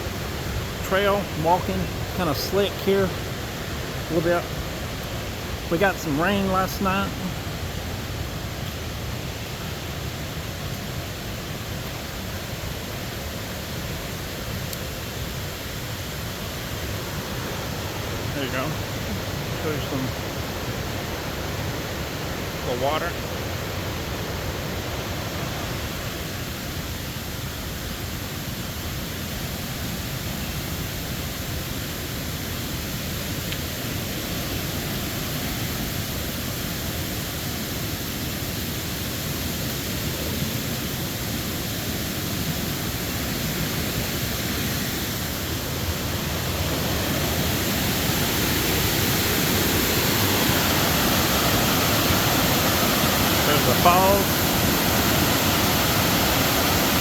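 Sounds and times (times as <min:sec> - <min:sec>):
river cascades rushing: 0:00.0 - 0:57.0.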